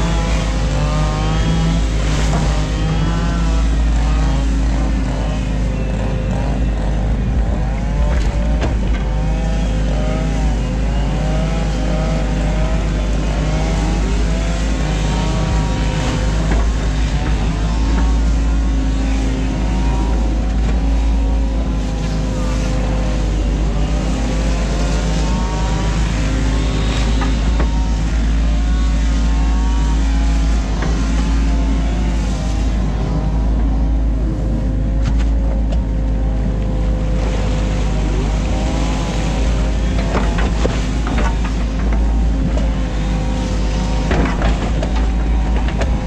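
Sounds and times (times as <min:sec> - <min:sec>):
excavator diesel engine whining: 0:00.0 - 0:46.0.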